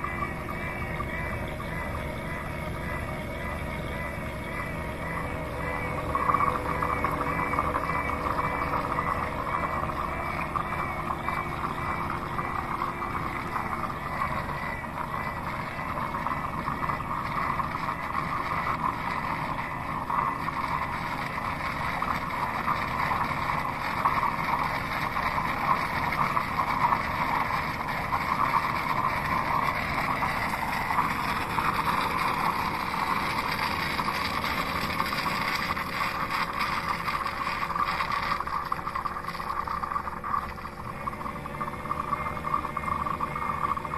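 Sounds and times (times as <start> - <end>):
faint warbling tone: 0.0 - 43.9.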